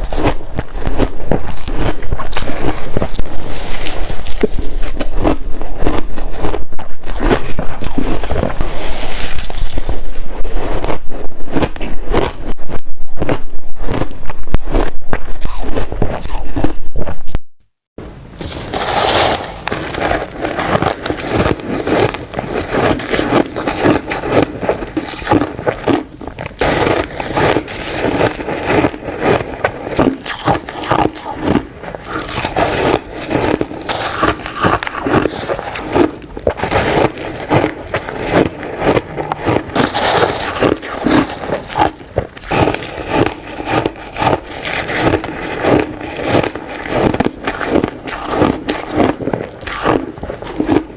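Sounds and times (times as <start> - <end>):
shaved ice crunching: 0.1 - 12.4, 18.4 - 50.9.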